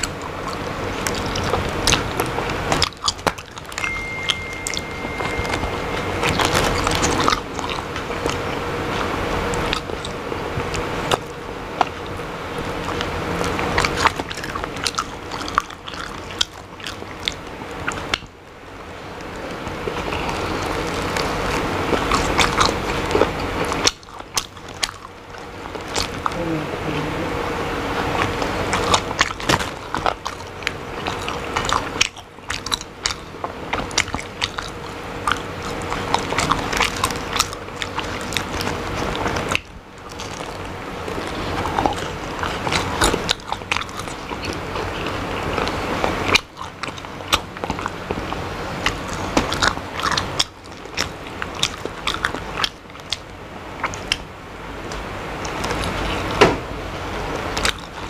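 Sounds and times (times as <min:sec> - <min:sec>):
person chewing with wet smacking: 0:00.0 - 0:58.0.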